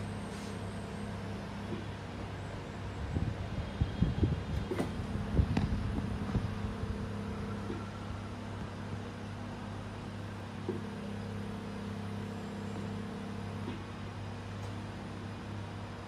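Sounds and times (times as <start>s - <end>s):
suction pump humming: 0.0s - 16.0s.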